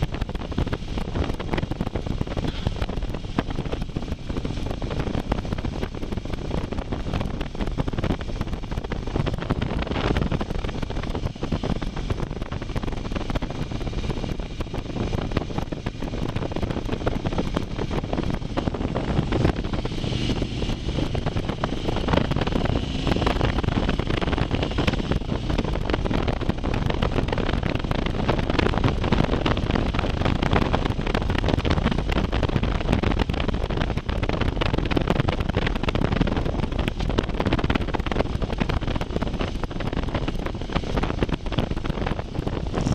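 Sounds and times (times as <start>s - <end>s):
motorcycle engine: 0.0s - 42.9s
wind buffeting microphone: 0.0s - 42.9s.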